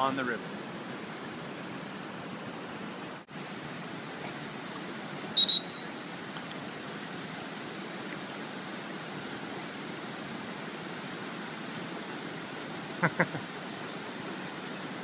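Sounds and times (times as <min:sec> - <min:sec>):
rushing whitewater rapids: 0:00.0 - 0:15.0.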